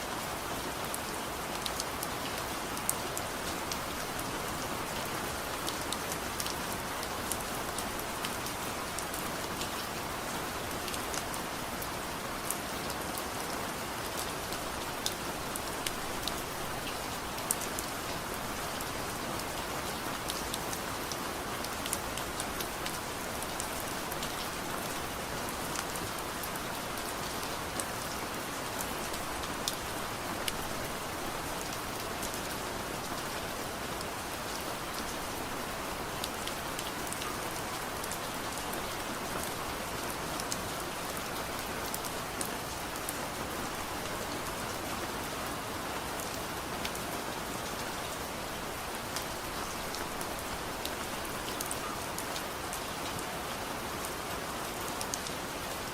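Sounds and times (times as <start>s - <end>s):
soft rain pattering: 0.0s - 55.9s.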